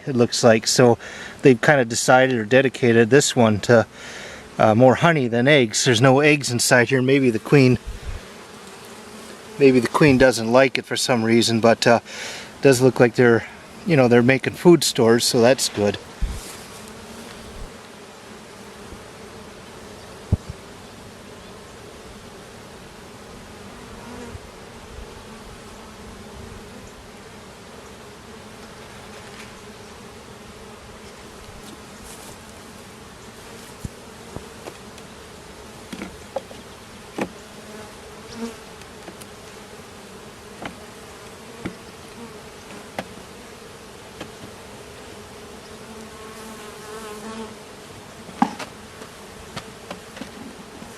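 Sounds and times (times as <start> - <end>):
bees buzzing: 0.2 - 50.9.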